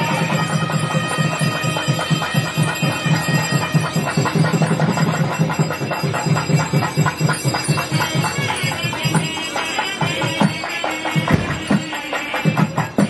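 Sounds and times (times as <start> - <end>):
temple percussion music: 0.0 - 13.0.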